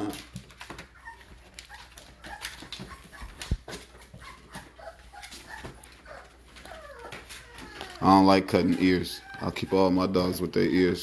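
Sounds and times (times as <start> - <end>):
puppies scuffling and clicking: 0.0 - 11.0
puppies whimpering: 0.0 - 11.0.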